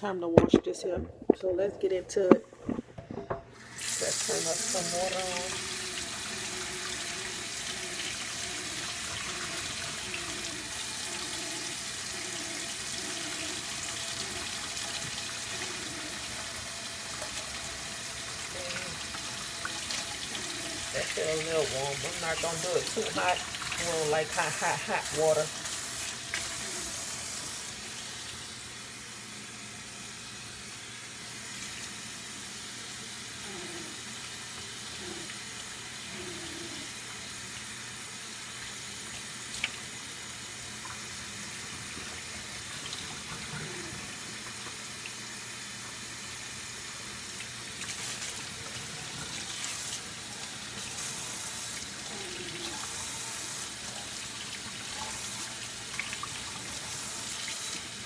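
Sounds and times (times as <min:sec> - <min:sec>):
water running from tap into sink: 0:03.6 - 0:58.0.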